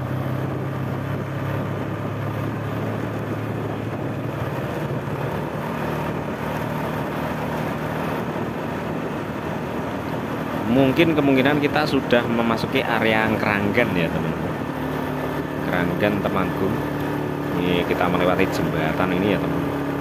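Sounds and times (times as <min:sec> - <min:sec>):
low engine hum: 0:00.0 - 0:20.0
road and wind noise: 0:00.0 - 0:20.0.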